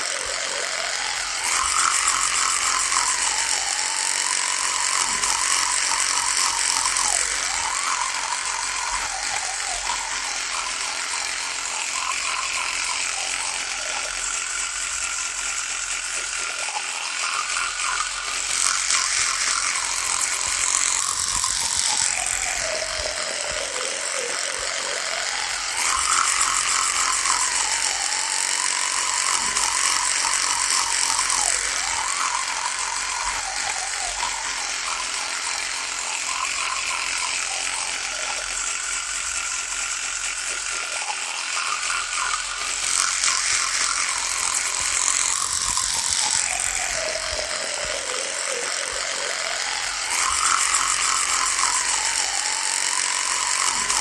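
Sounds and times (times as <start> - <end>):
electric toothbrush buzzing: 0.0 - 54.0.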